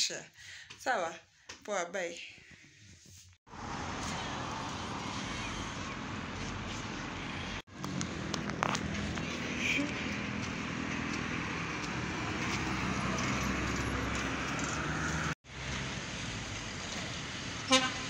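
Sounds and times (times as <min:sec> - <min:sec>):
bus passing close by: 0:03.5 - 0:18.0
road traffic: 0:03.5 - 0:18.0
street noise: 0:03.5 - 0:18.0.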